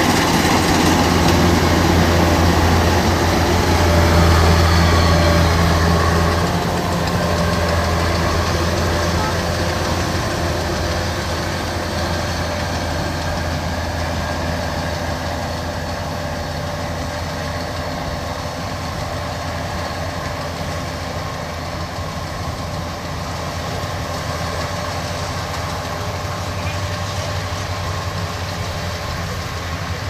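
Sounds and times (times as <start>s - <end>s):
combine harvester engine droning: 0.0s - 30.0s.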